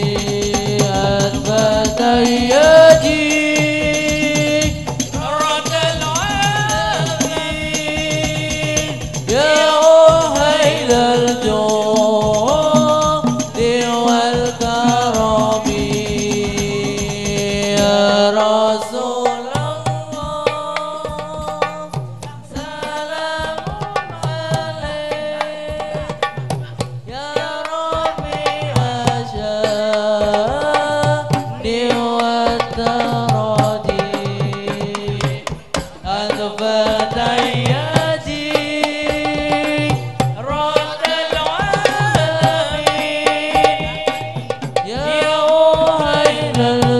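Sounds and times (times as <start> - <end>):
frame drums beating fast rhythm: 0.0 - 46.9
group singing devotional song: 0.0 - 46.9.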